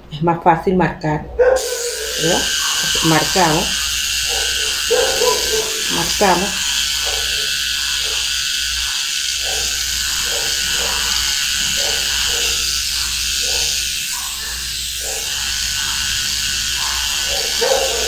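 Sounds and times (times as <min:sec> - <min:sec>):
electric trimmer buzzing: 0:01.6 - 0:18.0.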